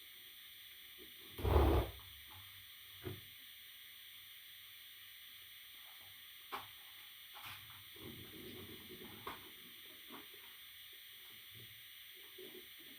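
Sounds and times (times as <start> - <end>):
faint steady hiss: 0.0 - 12.9.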